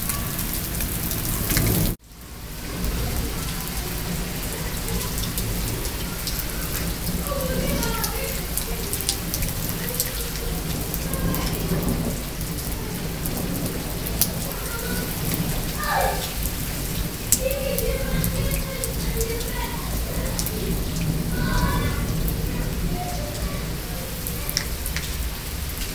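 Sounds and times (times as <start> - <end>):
rain falling: 0.0 - 25.9
raindrops ticking on hard surfaces: 0.0 - 25.9.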